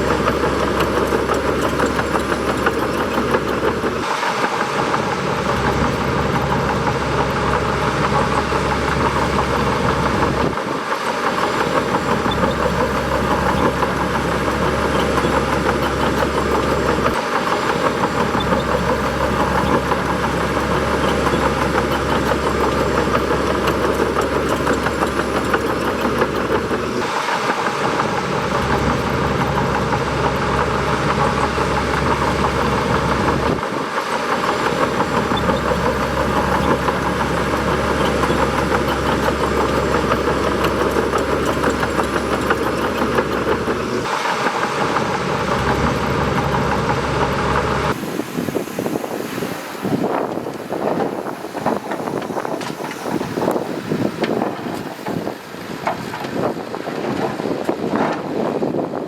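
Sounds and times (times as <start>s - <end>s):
bulldozer diesel engine rumbling: 0.0s - 59.0s.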